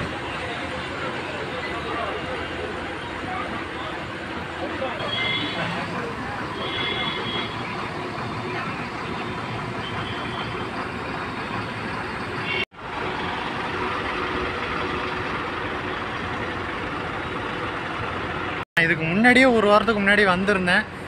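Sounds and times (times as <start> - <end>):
bus engines and traffic: 0.0 - 21.0.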